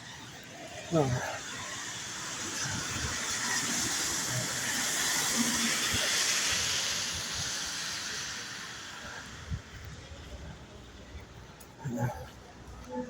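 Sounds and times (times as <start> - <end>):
tyres hissing on wet road: 0.0 - 11.8.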